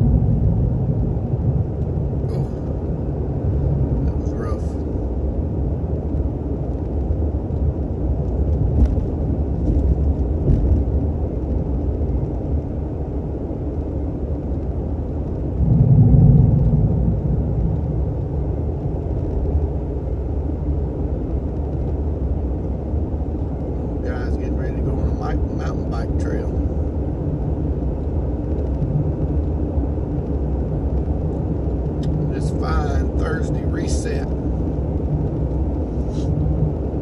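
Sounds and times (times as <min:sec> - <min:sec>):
engine and tyre rumble: 0:00.0 - 0:37.0.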